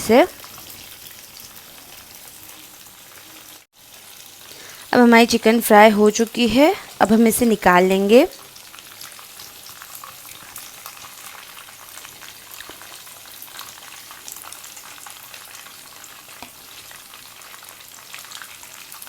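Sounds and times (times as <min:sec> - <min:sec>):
chicken frying in hot oil: 0:00.0 - 0:19.0.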